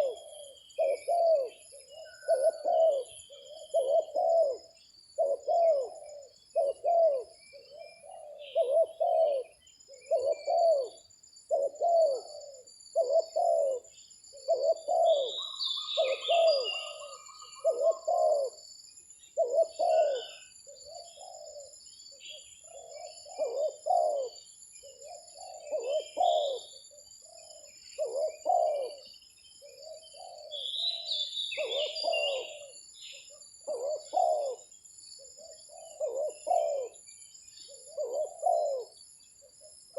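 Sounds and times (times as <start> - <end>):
doves cooing: 0.0 - 39.9
insects trilling: 0.0 - 39.9
small birds chirping: 0.0 - 39.9.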